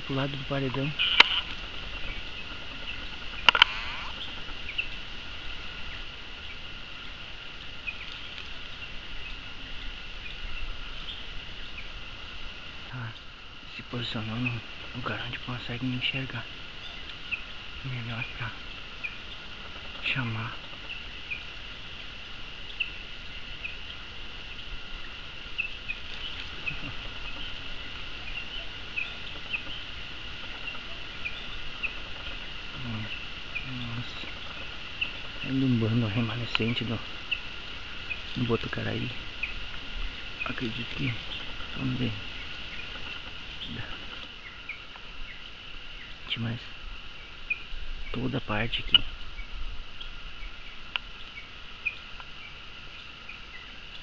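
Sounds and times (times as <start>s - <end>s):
insects droning: 0.0s - 54.0s
monkeys peeping: 0.0s - 54.0s.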